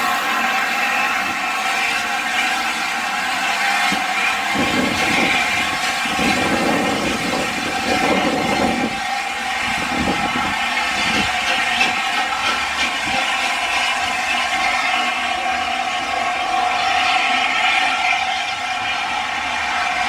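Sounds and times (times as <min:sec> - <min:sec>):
steam and rail noise hissing: 0:00.0 - 0:20.0
train rumble: 0:00.0 - 0:20.0.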